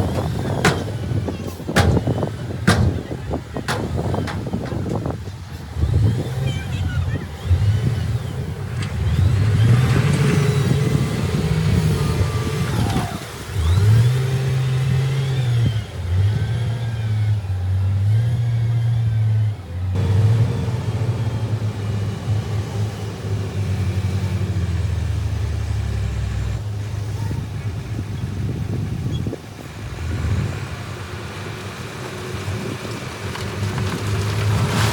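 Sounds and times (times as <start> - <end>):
heavy diesel machinery revving: 0.0 - 28.9.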